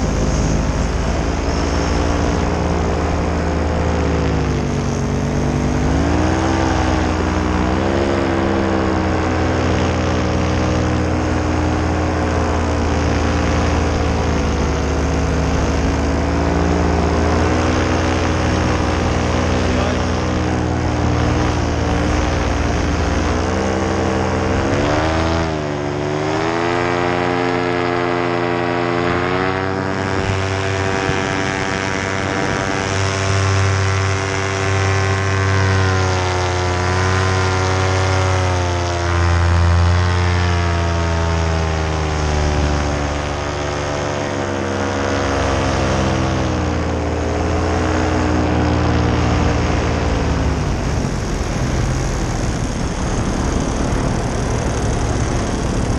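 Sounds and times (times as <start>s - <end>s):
paramotor engine and propeller: 0.0s - 55.9s.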